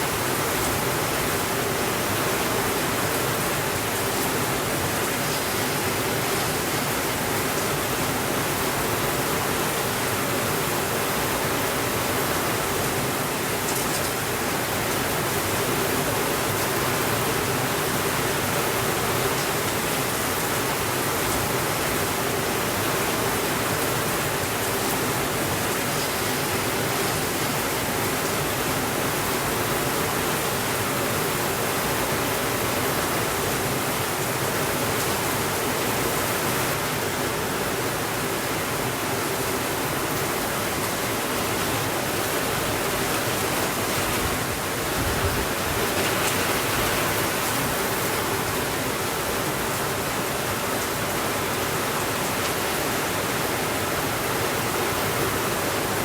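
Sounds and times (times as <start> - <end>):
steady rainfall hiss: 0.0 - 56.0.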